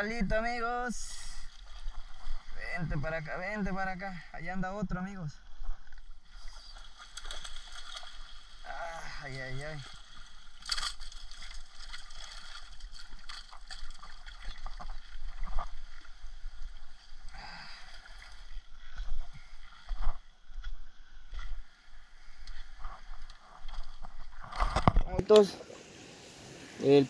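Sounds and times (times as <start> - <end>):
water sloshing and splashing: 1.3 - 2.8, 5.5 - 26.8.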